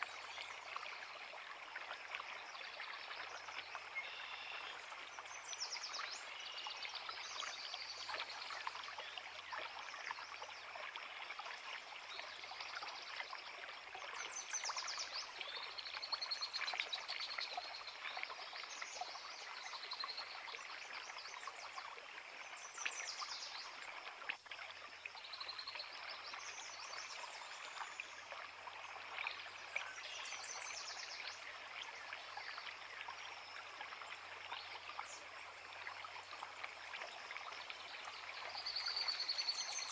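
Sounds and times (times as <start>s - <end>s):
creek running: 0.0s - 39.9s.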